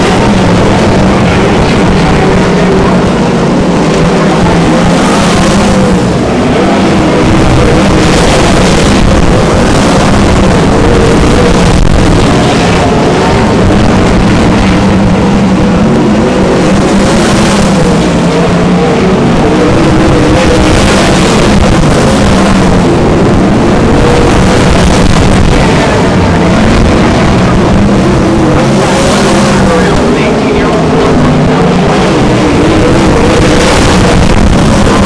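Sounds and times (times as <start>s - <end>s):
sprint car engines racing: 0.0s - 35.0s.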